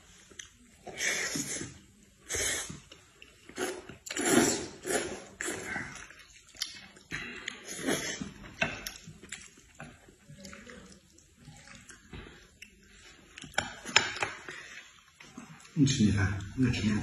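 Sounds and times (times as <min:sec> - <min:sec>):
chewing and slurping noodles: 0:00.0 - 0:15.8.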